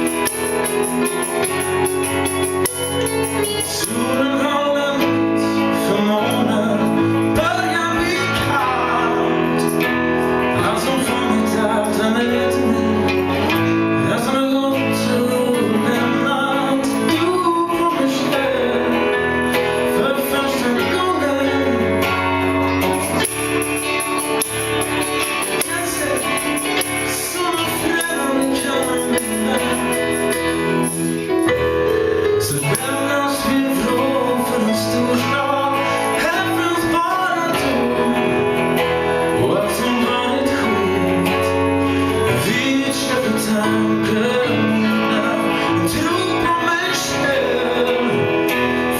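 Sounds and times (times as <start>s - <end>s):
band playing live: 0.0s - 48.9s
person singing: 0.0s - 48.9s.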